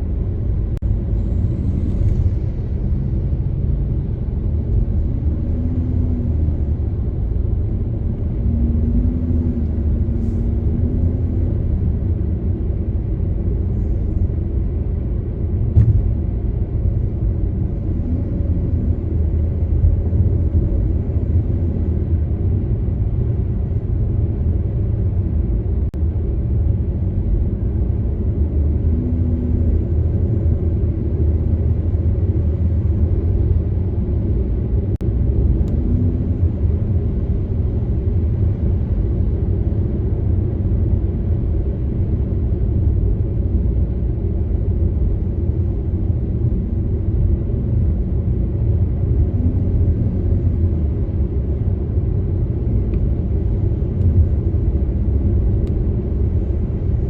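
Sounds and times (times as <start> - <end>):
car driving: 0.0 - 57.0.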